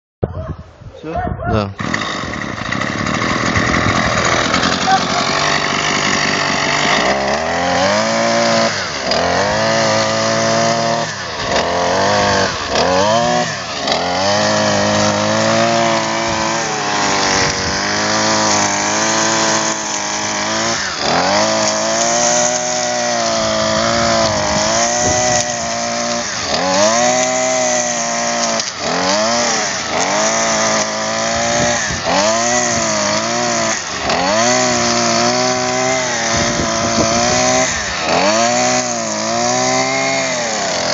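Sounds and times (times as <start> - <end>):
strimmer engine cutting grass: 1.6 - 40.9.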